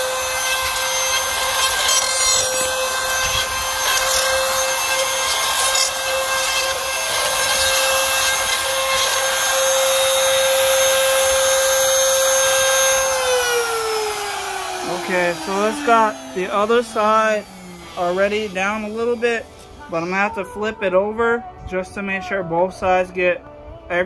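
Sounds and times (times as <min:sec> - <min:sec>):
motor winding down: 0:00.0 - 0:20.4
router cutting aluminium: 0:00.0 - 0:21.0.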